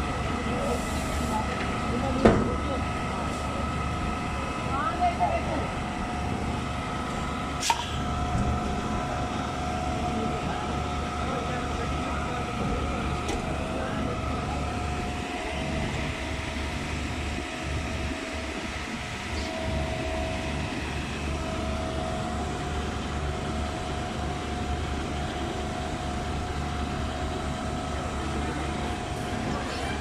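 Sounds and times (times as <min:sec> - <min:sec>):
diesel engine drone: 0:00.0 - 0:30.0
steady machine whine: 0:00.0 - 0:30.0.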